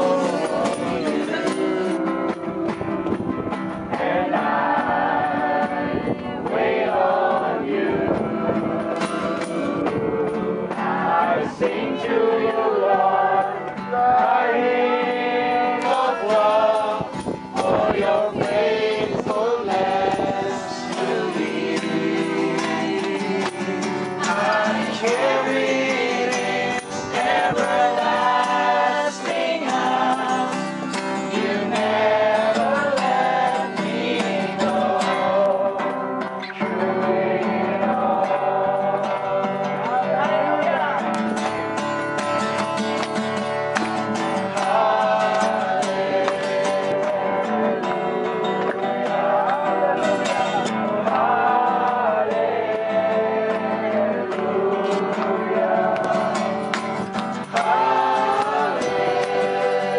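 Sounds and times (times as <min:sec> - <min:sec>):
congregation singing: 0:00.0 - 0:41.9, 0:42.6 - 0:59.9.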